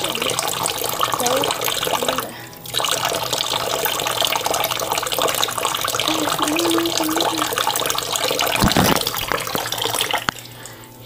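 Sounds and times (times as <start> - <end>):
tap water splashing into basin: 0.0 - 10.8.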